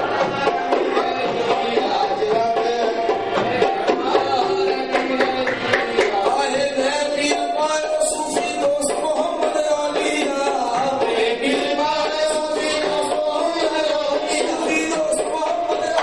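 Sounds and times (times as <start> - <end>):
tabla drumming: 0.0 - 16.0
held melody line: 1.4 - 16.0.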